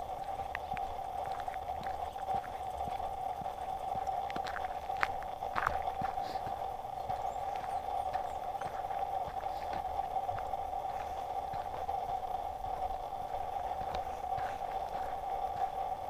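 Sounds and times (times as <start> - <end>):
footsteps on dirt trail: 0.0 - 16.0
steady mid-pitched hum: 0.0 - 16.0.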